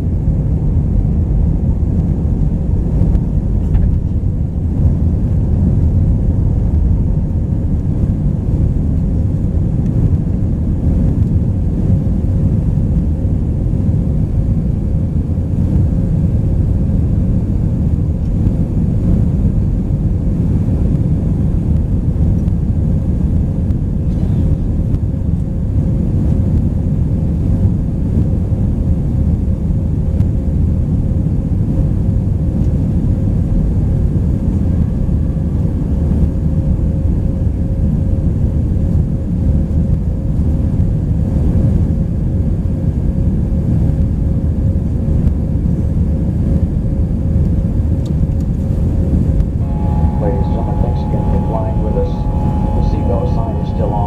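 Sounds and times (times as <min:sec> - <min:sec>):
aircraft cabin engine rumble: 0:00.0 - 0:54.0
faint constant hum: 0:00.0 - 0:54.0.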